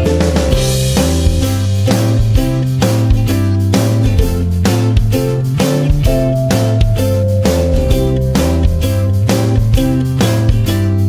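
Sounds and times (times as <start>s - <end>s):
strummed guitar music with bass: 0.0s - 11.0s.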